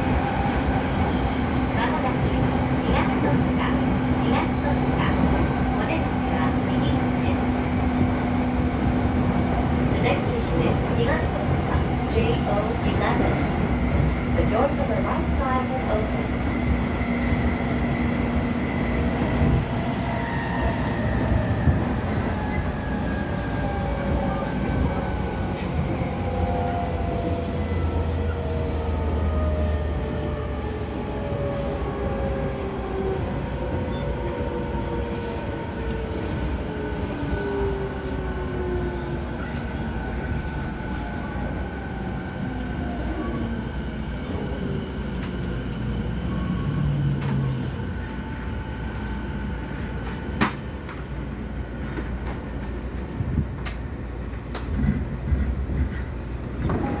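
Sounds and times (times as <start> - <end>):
rail and wheel noise: 0.0 - 57.0.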